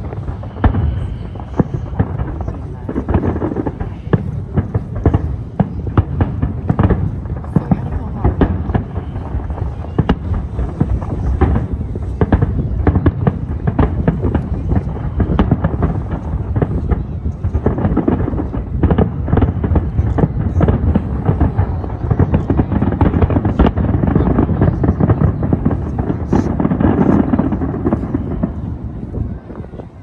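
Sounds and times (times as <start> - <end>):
fireworks booming and crackling: 0.0 - 30.0.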